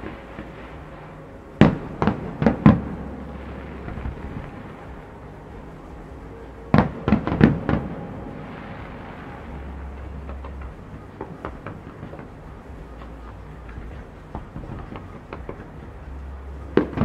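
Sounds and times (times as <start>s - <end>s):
firework shells bursting: 0.0s - 15.8s
low rumble: 0.0s - 17.0s.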